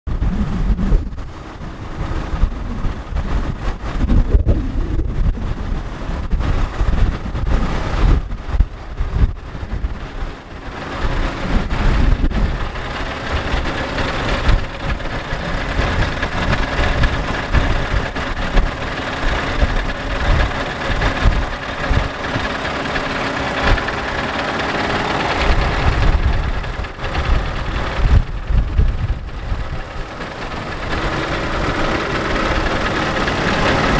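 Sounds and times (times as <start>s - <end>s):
diesel engine idling: 0.1s - 33.9s
low buffeting: 0.1s - 33.9s.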